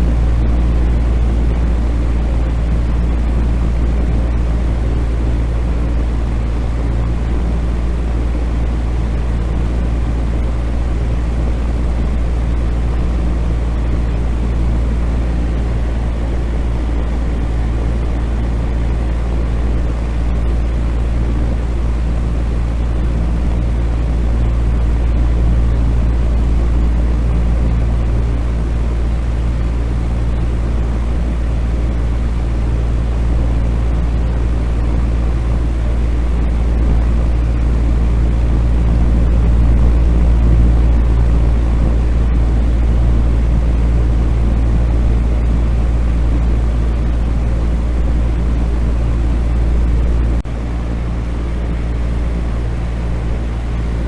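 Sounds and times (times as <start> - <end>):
ventilation fan running: 0.0 - 54.0.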